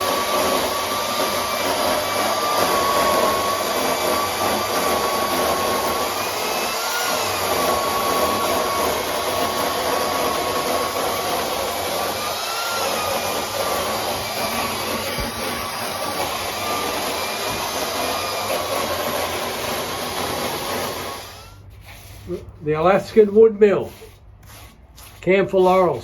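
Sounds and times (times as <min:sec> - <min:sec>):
chainsaw cutting log: 0:00.0 - 0:21.6.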